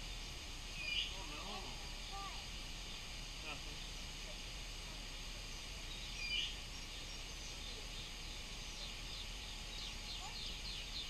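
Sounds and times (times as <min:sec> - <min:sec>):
distant birds: 0:00.0 - 0:11.0
insects hissing: 0:00.0 - 0:11.0.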